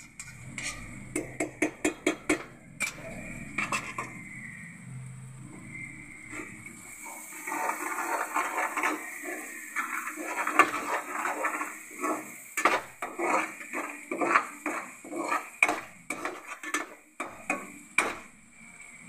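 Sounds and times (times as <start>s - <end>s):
metal spoon scraping metal pan: 0.0s - 4.6s, 7.2s - 18.3s.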